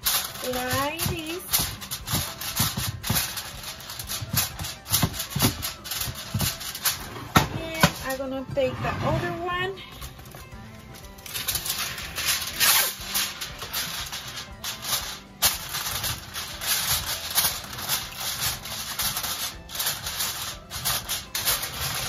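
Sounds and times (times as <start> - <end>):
aluminum foil crinkling: 0.0 - 8.4, 9.9 - 22.0.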